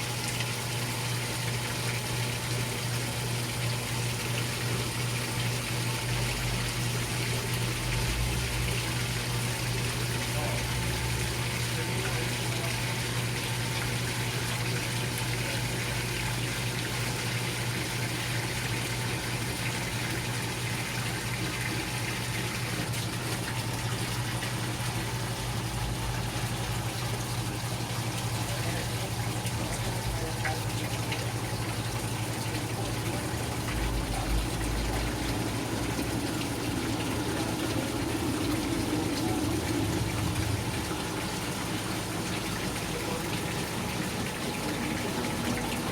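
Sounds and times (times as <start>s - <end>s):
washing machine motor hum: 0.0s - 45.9s
water rushing through tub: 0.0s - 45.9s.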